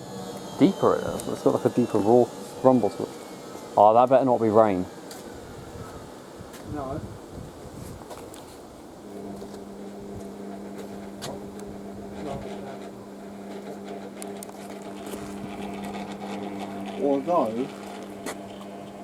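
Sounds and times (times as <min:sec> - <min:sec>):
machine electric hum: 0:00.0 - 0:19.0.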